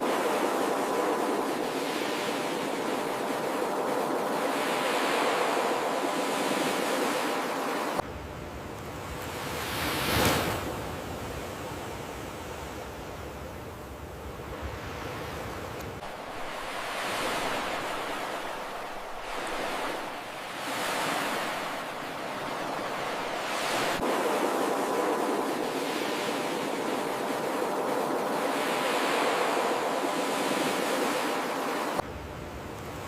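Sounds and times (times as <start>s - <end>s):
ocean surf washing ashore: 0.0s - 33.0s.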